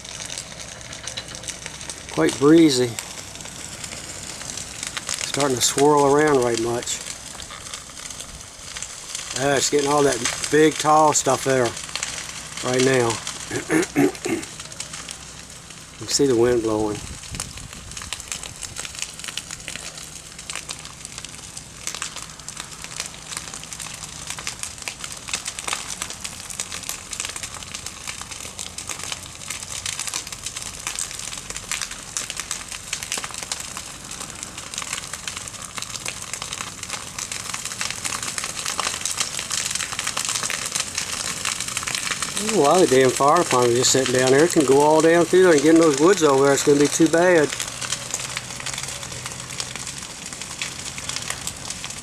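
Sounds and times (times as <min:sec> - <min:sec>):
grass fire crackling: 0:00.0 - 0:52.0.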